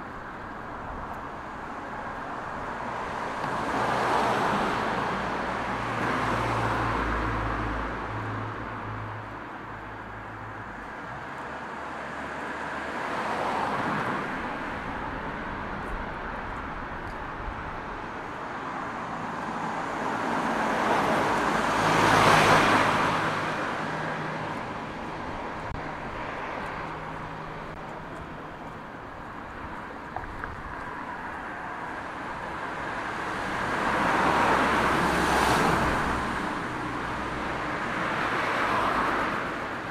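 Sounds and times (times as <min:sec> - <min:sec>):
cars passing: 0:00.0 - 0:39.9.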